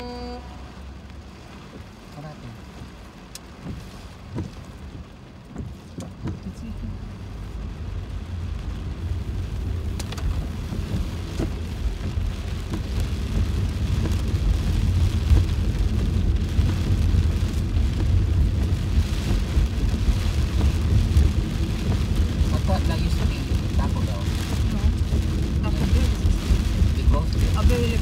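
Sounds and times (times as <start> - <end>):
car tyres on wet road: 0.0 - 28.0
heavy rain on car roof: 0.0 - 28.0.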